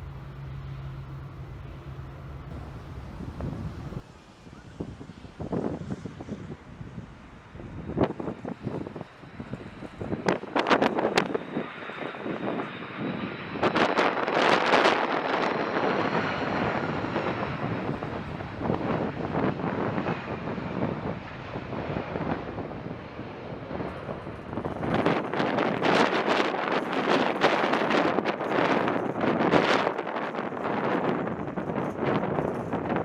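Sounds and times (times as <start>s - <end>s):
faint high engine whine: 0.0s - 33.0s
jet engines roaring: 0.0s - 33.0s
wind buffeting microphone: 0.0s - 33.0s.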